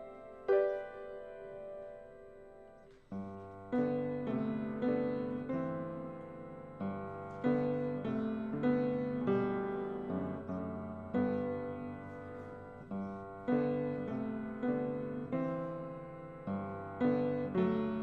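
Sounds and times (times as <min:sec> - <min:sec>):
piano playing slow quiet chords: 0:00.0 - 0:18.0.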